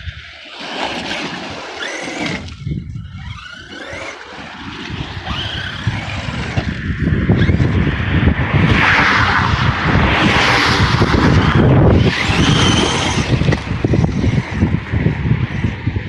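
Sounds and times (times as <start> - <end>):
high motor whine: 0.0 - 16.0
rc truck tyres churning mud: 0.0 - 16.0.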